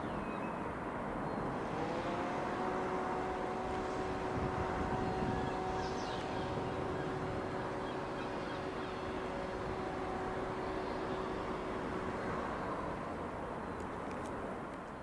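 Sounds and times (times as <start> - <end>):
turboprop engines droning overhead: 0.0 - 14.9.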